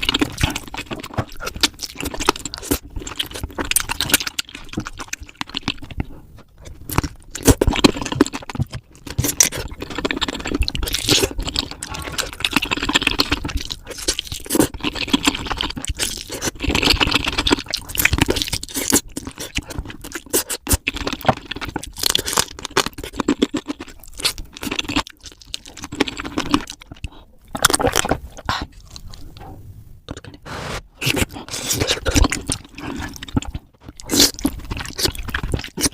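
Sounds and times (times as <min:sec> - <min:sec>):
crunching fried chicken: 0:00.0 - 0:29.3, 0:31.0 - 0:35.9
wet chewing: 0:00.0 - 0:29.5, 0:30.1 - 0:35.9.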